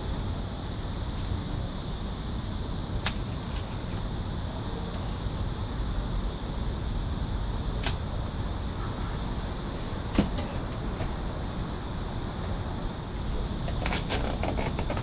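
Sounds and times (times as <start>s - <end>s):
low city background rumble: 0.0s - 15.0s.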